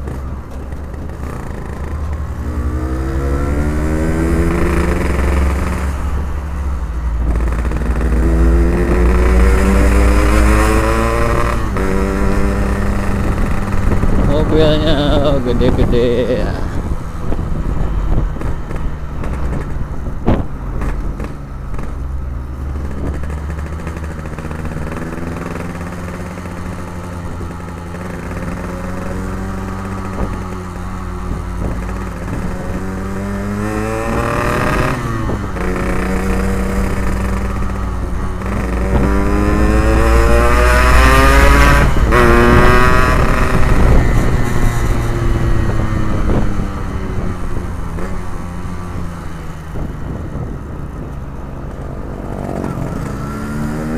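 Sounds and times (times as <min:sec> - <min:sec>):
motorcycle accelerating: 0:00.0 - 0:53.9.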